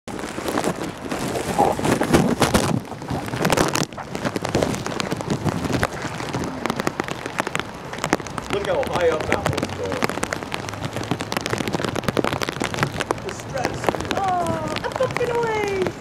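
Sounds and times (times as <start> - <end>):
rain pattering: 0.0 - 16.0
wind gusting on microphone: 0.1 - 16.0.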